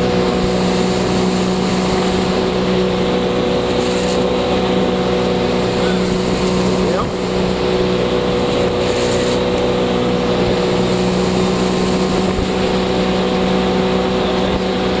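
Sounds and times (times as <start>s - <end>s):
boat engine drone: 0.0s - 15.0s
rushing water: 0.0s - 15.0s.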